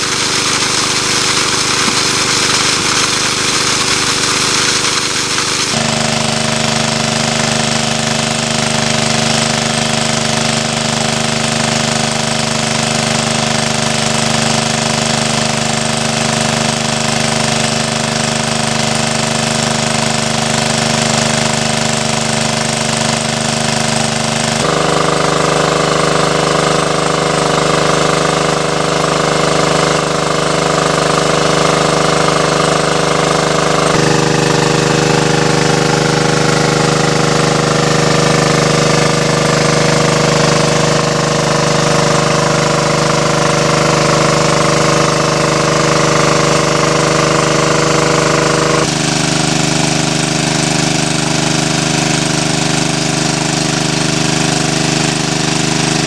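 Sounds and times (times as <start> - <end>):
water jetting from outlet: 0.0 - 56.0
water pump motor running: 0.0 - 56.0.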